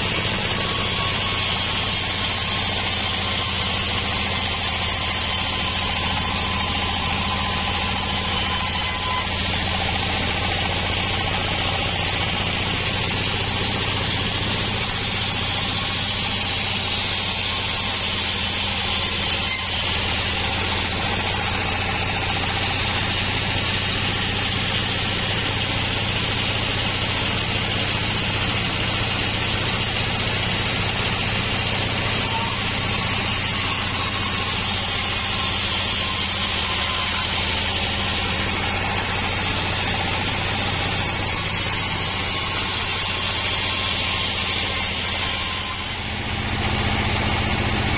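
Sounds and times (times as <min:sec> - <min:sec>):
band sawmill hum: 0:00.0 - 0:47.9
saw blade hissing through log: 0:00.0 - 0:47.9.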